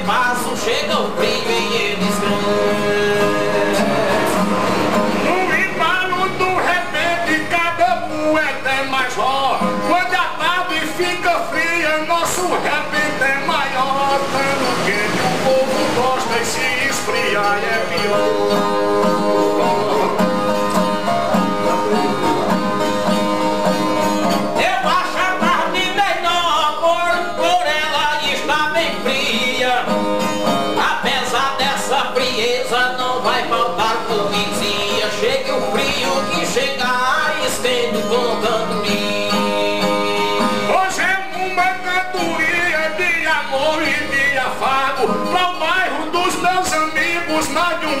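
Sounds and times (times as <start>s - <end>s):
man singing ornamented line: 0.0s - 48.0s
viola strummed and picked: 0.0s - 48.0s.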